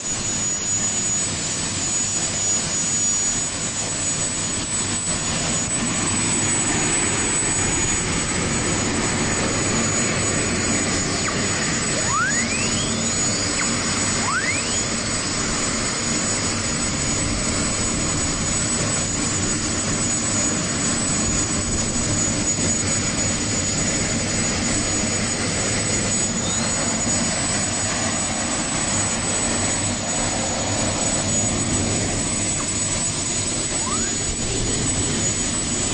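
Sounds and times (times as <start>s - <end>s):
rising whistles: 0.0s - 18.0s, 18.6s - 35.9s
gas turbine engine whine: 0.0s - 35.9s.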